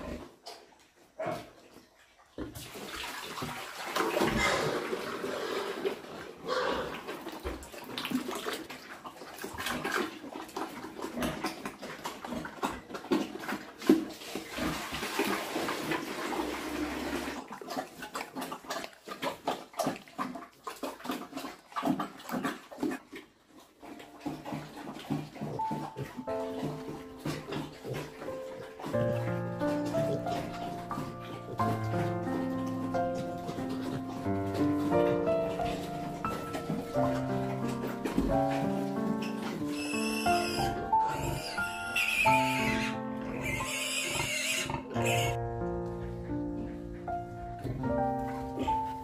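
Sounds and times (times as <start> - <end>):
pigs slurping and chomping: 0.0 - 49.0.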